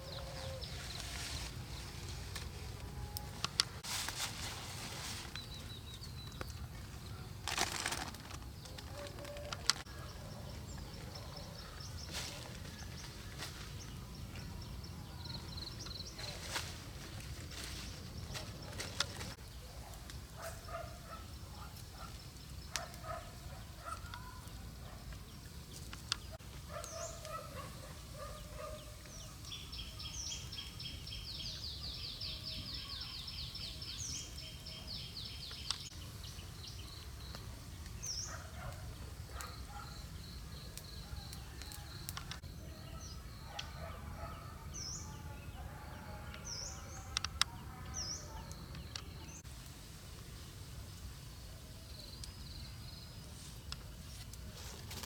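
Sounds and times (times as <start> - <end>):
birds chirping: 0.0 - 3.8, 4.9 - 49.5.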